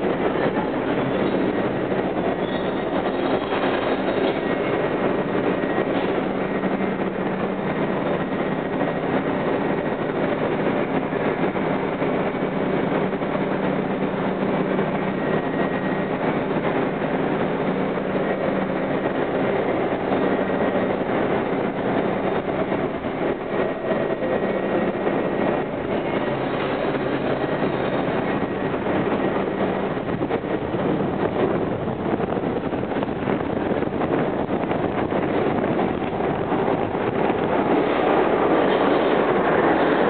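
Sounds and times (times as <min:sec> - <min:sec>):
subway train wheels rumbling on rail: 0:00.0 - 0:40.0.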